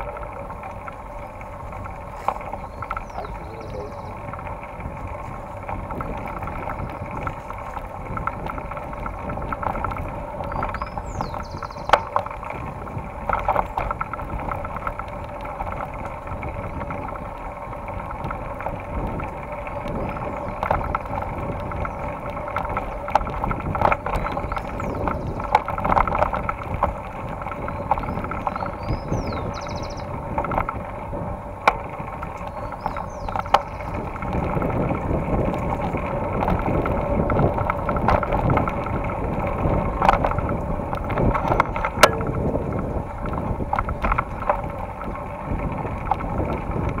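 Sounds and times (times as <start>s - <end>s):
bike knocking and rattling: 0.0s - 47.0s
bike tyres on dirt trail: 0.0s - 47.0s
wind noise: 0.0s - 47.0s.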